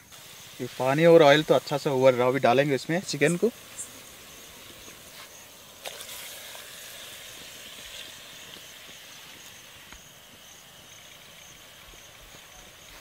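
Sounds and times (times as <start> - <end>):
oil hissing and sizzling: 0.0 - 13.0.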